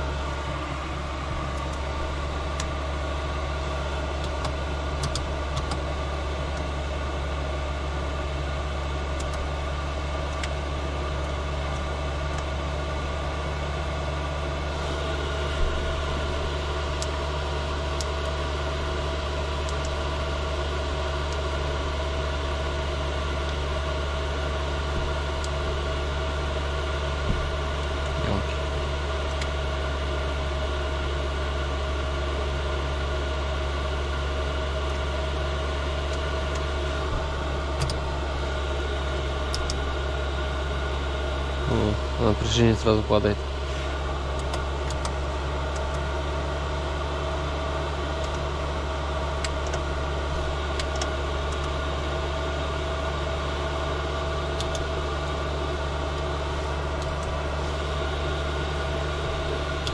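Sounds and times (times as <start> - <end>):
heater blower hum and hiss: 0.0 - 59.9.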